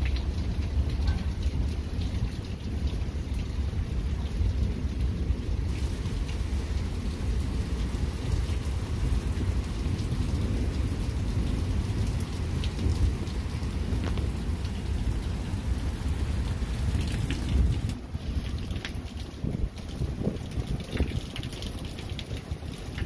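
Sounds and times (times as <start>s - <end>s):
heavy rain: 0.0s - 23.0s
low rumble of thunder: 0.0s - 23.0s.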